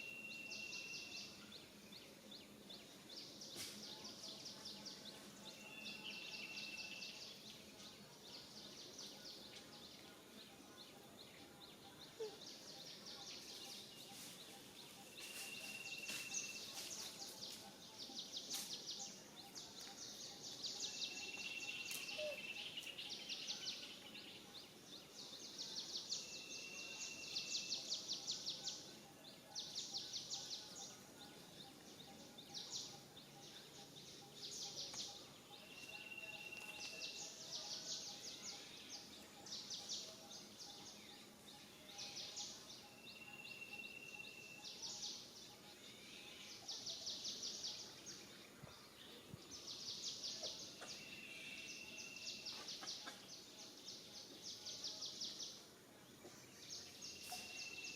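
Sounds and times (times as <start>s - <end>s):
faint background hiss: 0.0s - 57.9s.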